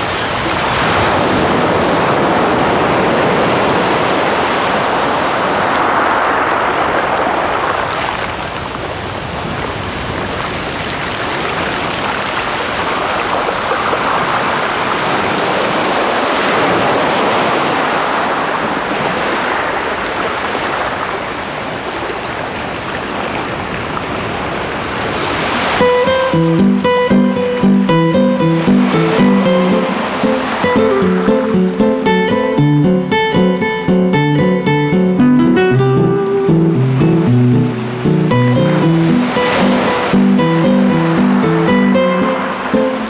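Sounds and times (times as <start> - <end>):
waves washing onto shore: 0.0 - 43.0.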